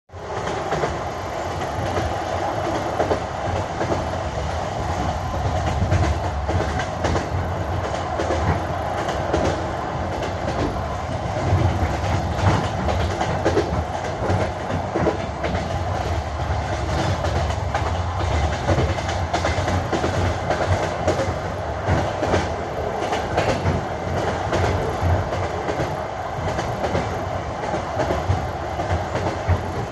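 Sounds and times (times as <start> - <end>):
railway carriage rumble: 0.1 - 29.9
train wheels clacking over rail joints: 5.0 - 29.9.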